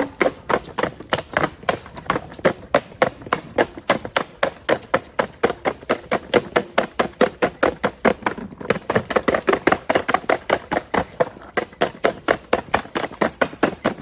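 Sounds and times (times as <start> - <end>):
rapid sharp taps: 0.0 - 13.6.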